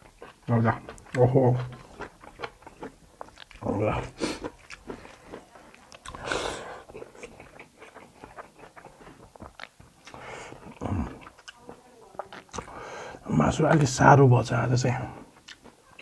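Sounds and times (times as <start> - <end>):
chewing and biting meat: 0.0 - 13.0, 15.0 - 16.0.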